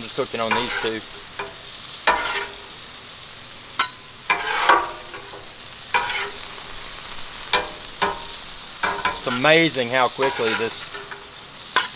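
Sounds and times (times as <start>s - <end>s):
metal utensil scraping griddle: 0.0s - 11.9s
vegetables sizzling on griddle: 0.0s - 11.9s.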